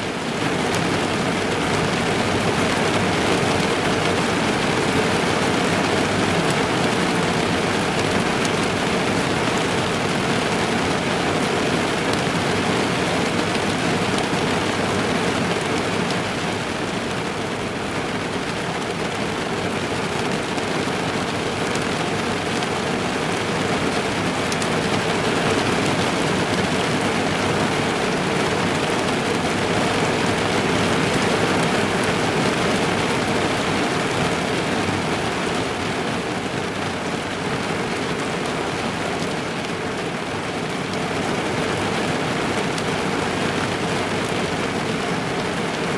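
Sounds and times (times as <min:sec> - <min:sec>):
heavy rain on car roof: 0:00.0 - 0:45.9.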